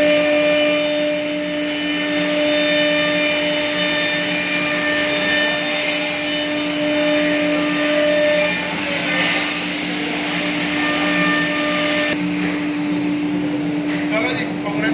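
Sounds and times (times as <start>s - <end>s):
spindle motors whining: 0.0s - 14.9s.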